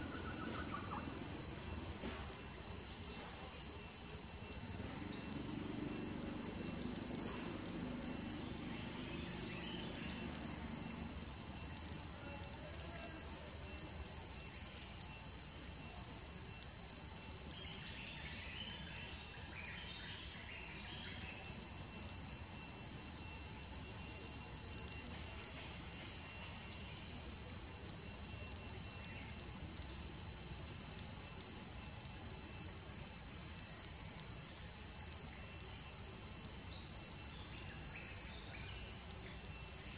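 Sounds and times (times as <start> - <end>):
insect chirping: 0.0 - 39.9
insects buzzing: 0.0 - 39.9.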